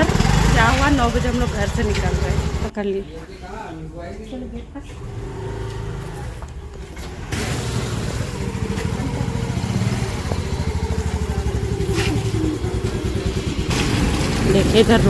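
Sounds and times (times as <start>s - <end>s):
motor scooter engine: 0.0s - 2.7s, 4.9s - 15.0s.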